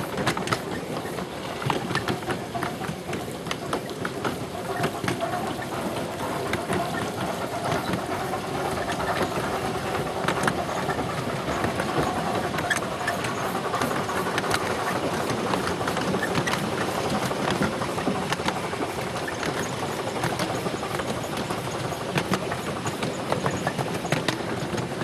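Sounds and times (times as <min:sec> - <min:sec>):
train rumbling on track: 0:00.0 - 0:25.0
wheels and couplings clanking: 0:00.0 - 0:25.0.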